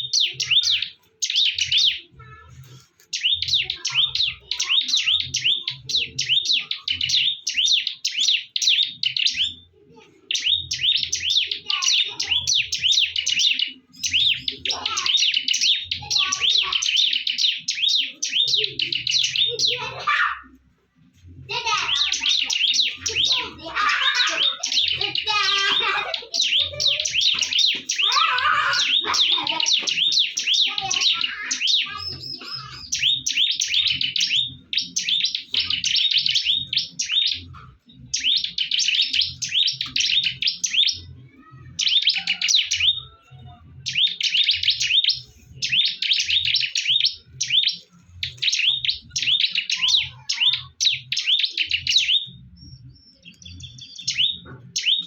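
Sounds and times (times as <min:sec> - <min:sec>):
birds shrill chirping: 0:00.0 - 0:55.0.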